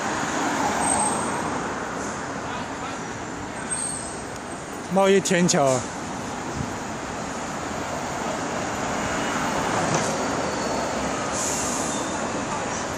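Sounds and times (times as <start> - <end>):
city road traffic: 0.0 - 12.9.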